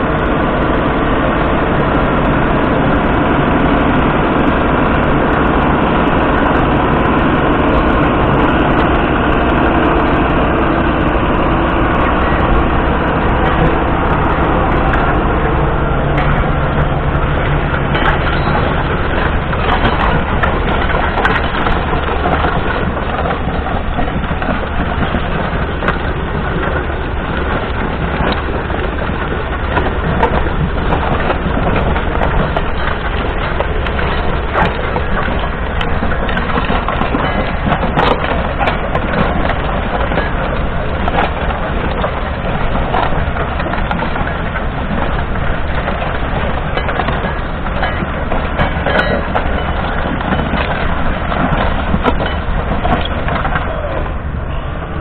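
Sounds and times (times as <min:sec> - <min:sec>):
plough crunching through soil: 0:00.0 - 0:55.0
tractor diesel engine running: 0:00.0 - 0:55.0.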